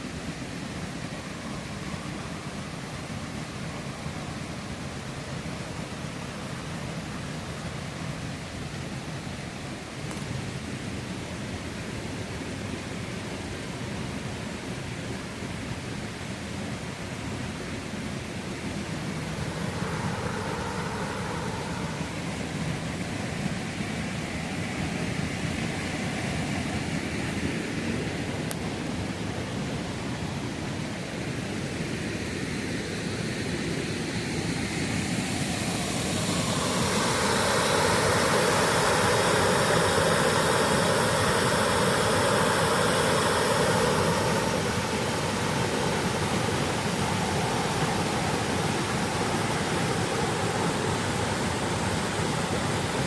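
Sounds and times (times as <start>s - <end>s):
water rushing over waterfall: 0.0s - 53.0s.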